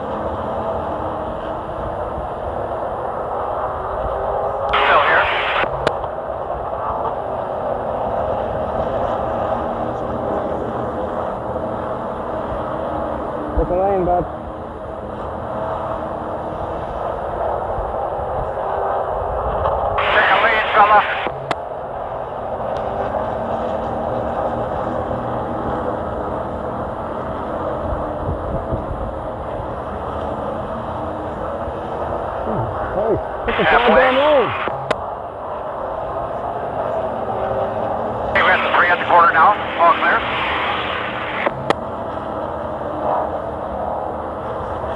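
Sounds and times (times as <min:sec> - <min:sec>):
road and drivetrain noise: 0:00.0 - 0:44.9.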